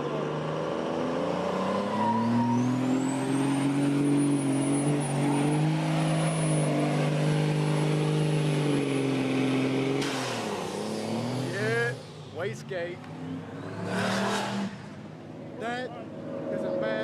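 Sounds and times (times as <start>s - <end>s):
car engine under load: 0.0s - 17.0s.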